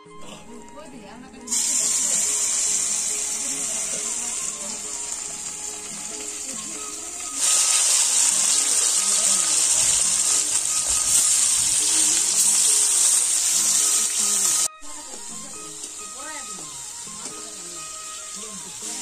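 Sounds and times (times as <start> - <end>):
fish sizzling in hot oil: 1.5 - 19.0.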